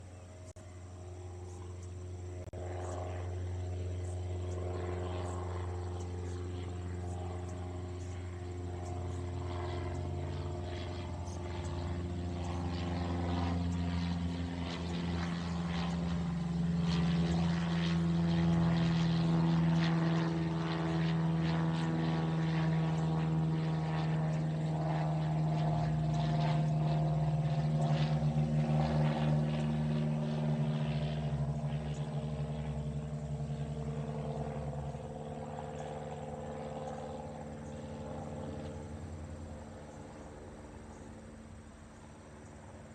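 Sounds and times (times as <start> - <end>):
propeller plane flyover: 0.0 - 42.9.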